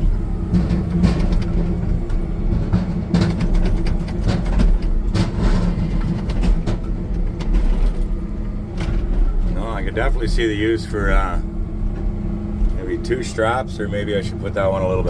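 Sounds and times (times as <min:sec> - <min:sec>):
wheel loader diesel engine: 0:00.0 - 0:15.0.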